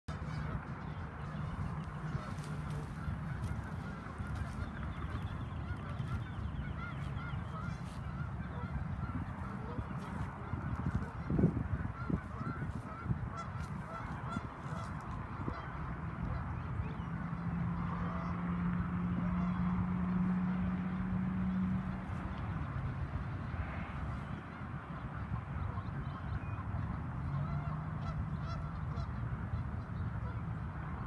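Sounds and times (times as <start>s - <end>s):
geese honking: 0.1s - 18.5s, 19.1s - 19.7s, 21.6s - 30.4s.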